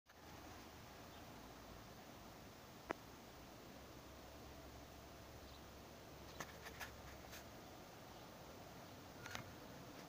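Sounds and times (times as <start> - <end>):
faint steady hiss: 0.1 - 10.0.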